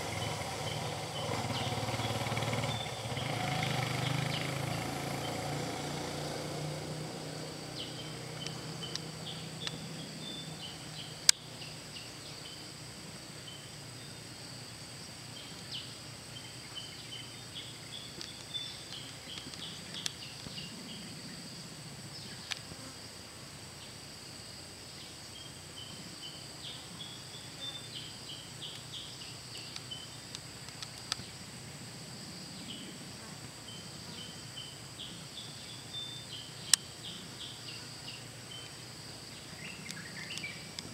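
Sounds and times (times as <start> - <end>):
insect chirps: 0.0 - 40.9
insects high-pitched drone: 0.0 - 40.9.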